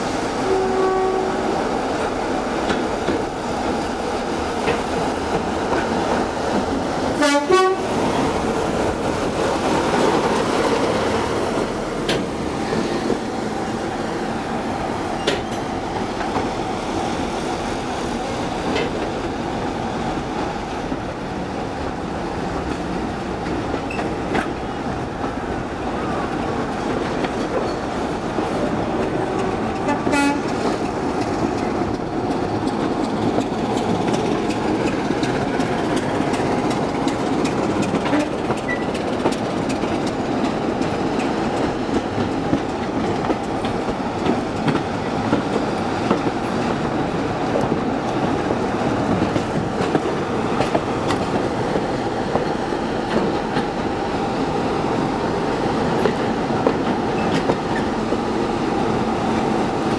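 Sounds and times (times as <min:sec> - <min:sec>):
diesel locomotive engines: 0:00.0 - 0:59.9
train wheels rumbling on rails: 0:00.0 - 0:59.9.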